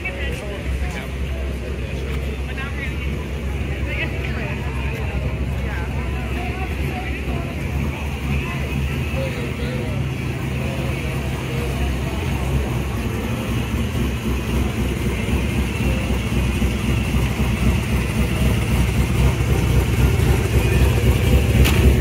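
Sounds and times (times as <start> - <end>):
crowd chatter: 0.0 - 22.0
hot rod engines at low revs: 0.1 - 22.0.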